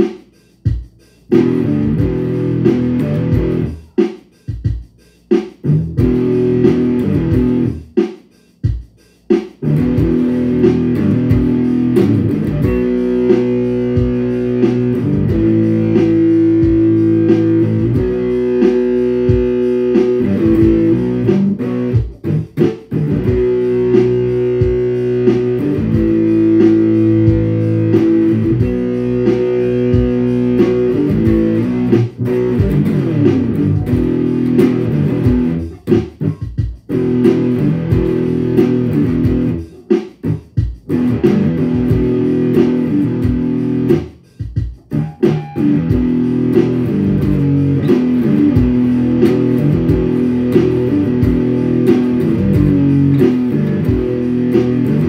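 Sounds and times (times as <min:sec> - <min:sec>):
electric guitar riffs: 0:01.3 - 0:04.0, 0:05.6 - 0:07.8, 0:09.6 - 0:44.1, 0:44.7 - 0:55.0.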